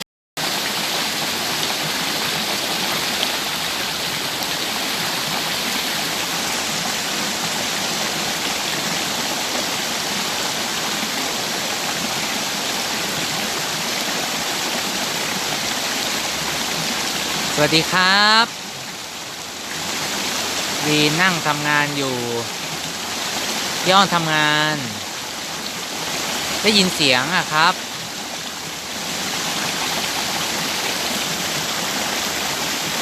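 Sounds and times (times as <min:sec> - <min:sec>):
waterfall rushing and splashing: 0:00.4 - 0:33.0.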